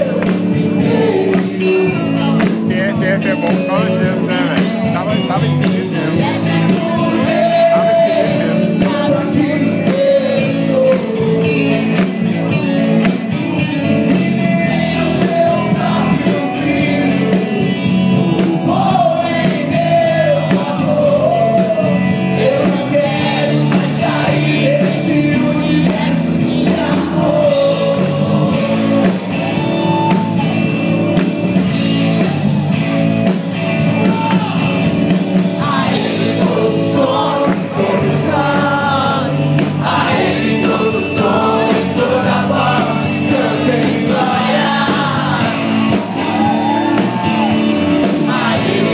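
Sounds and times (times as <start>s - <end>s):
person singing: 0.0s - 30.8s, 35.4s - 48.9s
electric guitars: 0.0s - 48.9s
live rock band playing: 0.0s - 48.9s.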